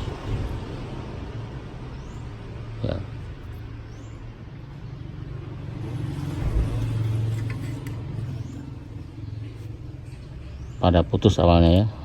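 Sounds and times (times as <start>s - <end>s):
motor vehicle running: 0.0s - 12.0s.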